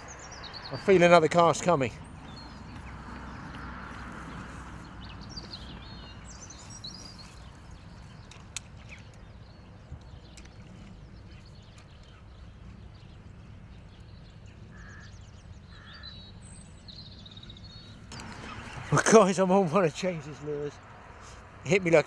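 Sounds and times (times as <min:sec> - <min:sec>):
wind rumbling on microphone: 0:00.0 - 0:19.2
small birds chirping: 0:00.0 - 0:22.0.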